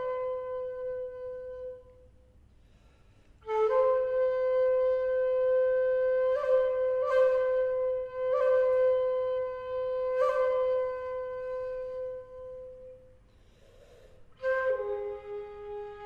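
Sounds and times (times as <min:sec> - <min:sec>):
bamboo flute long notes: 0:00.0 - 0:02.3, 0:03.4 - 0:13.2, 0:14.3 - 0:16.0.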